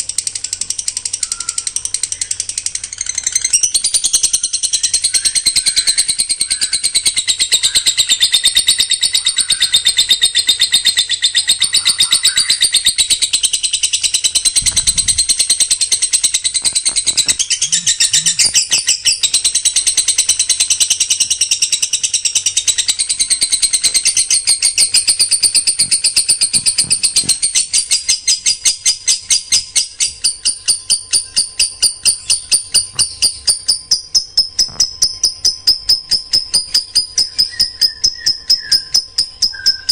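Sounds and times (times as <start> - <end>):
songbird rapid trill: 0.0 - 39.9.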